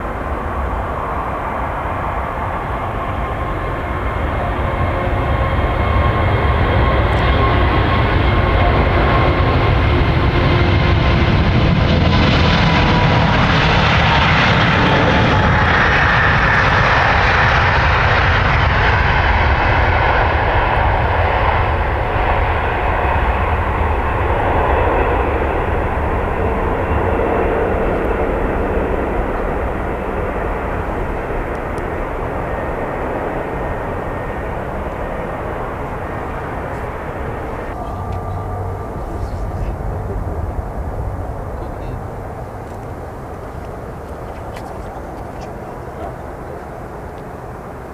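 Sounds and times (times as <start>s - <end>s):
jet aircraft rumble: 0.0s - 47.9s.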